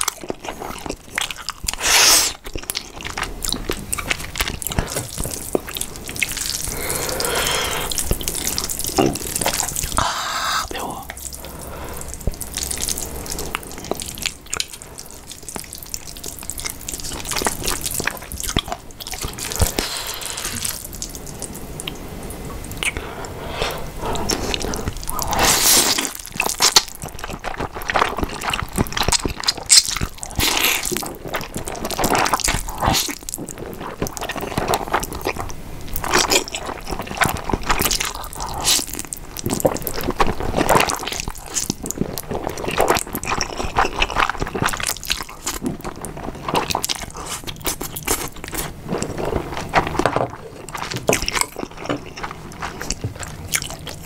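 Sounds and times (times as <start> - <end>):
person slurping and chewing noodles: 0.0 - 54.0.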